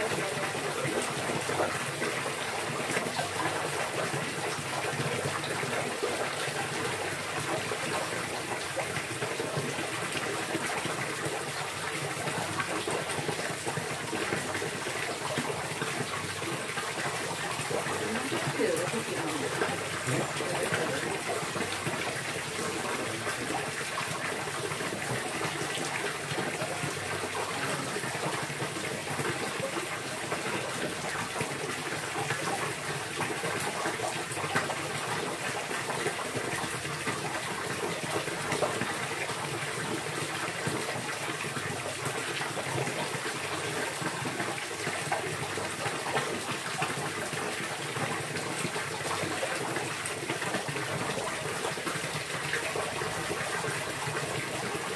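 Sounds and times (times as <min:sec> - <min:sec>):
rushing splashing water: 0:00.0 - 0:54.9.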